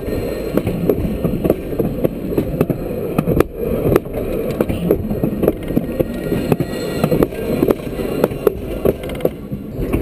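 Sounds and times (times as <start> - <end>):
tram wheels rumbling on rails: 0.0 - 10.0
sharp clicks and knocks: 0.5 - 10.0.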